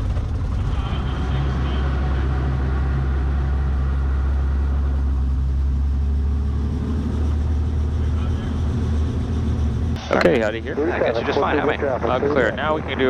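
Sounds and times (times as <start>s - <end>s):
helicopter engine idling: 0.0s - 13.0s.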